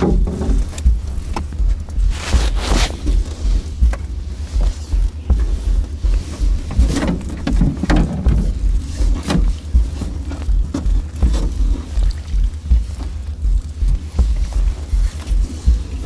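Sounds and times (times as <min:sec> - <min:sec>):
water splashing and dripping: 0:00.0 - 0:16.0
wet net rustling: 0:00.0 - 0:16.0
wind buffeting microphone: 0:00.0 - 0:16.0.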